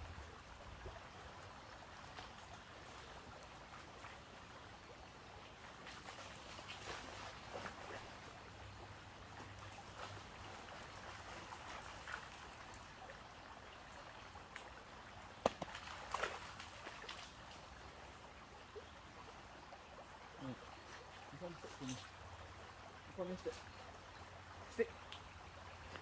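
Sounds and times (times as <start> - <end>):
stream trickling over stones: 0.0 - 26.0.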